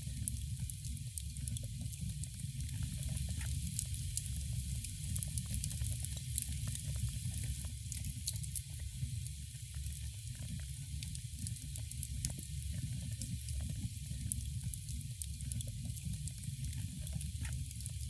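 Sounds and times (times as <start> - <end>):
wood fire crackling and hissing: 0.0 - 18.0.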